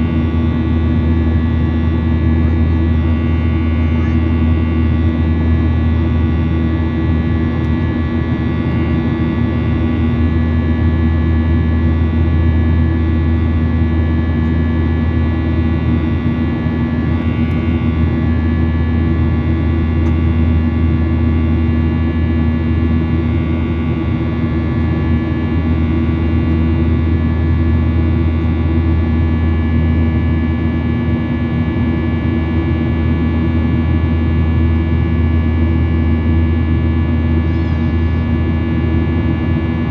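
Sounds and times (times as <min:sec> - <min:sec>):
jet engine drone: 0:00.0 - 0:39.9.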